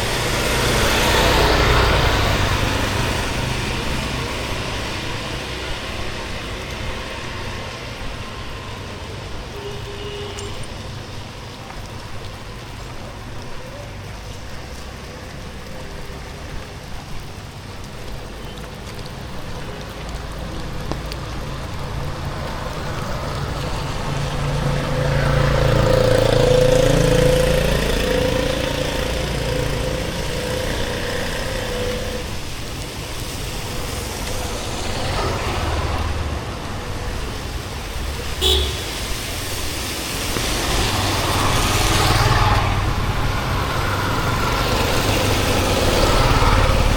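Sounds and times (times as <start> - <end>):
rain hiss: 0.0 - 46.9
traffic on wet street: 0.0 - 46.9.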